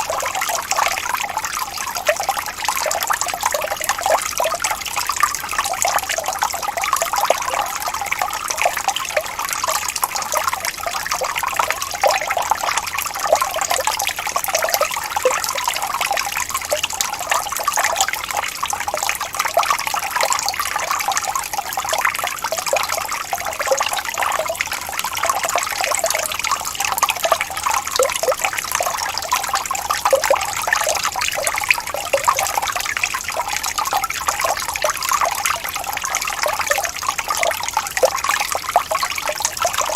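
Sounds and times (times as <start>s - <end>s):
stream water rippling and gurgling: 0.0s - 39.9s.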